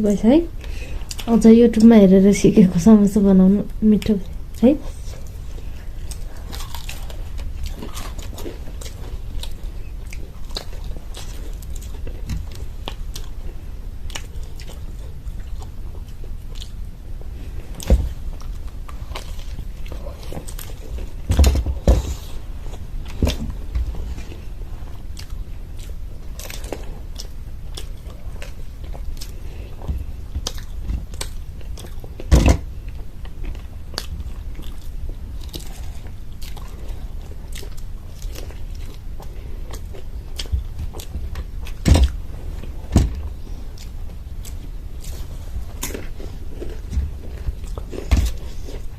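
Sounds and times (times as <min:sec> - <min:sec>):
chewing crunchy pastry: 0:04.3 - 0:48.9.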